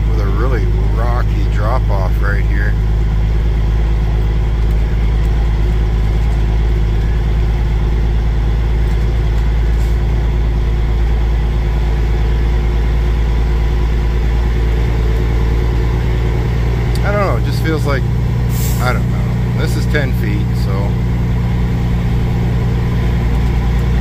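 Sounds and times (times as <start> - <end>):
road noise: 0.0 - 24.0
truck diesel engine droning: 0.0 - 24.0.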